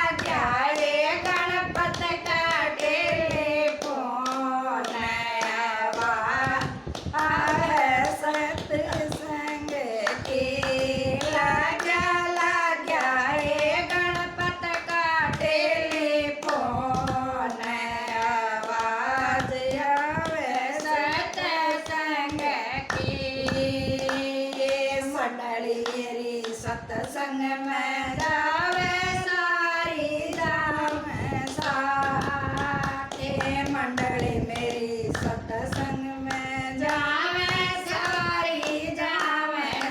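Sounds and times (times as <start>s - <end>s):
hand-clapping: 0.0s - 39.9s
person singing devotional song: 0.0s - 39.9s.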